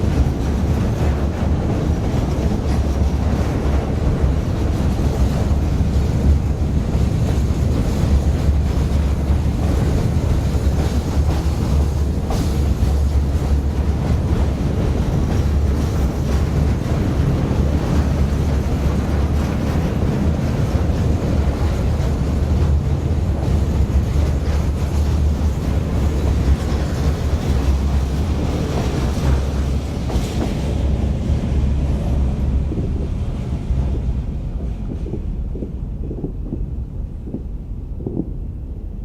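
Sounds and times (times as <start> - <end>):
train rumbling past: 0.0 - 39.0.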